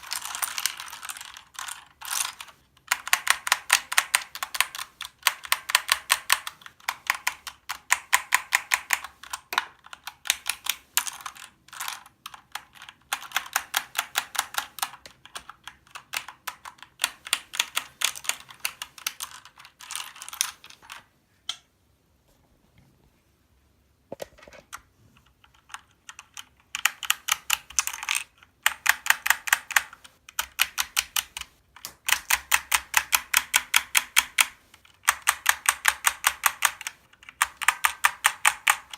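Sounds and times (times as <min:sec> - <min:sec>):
mechanical keyboard clicking: 0:00.0 - 0:21.0, 0:25.4 - 0:38.9.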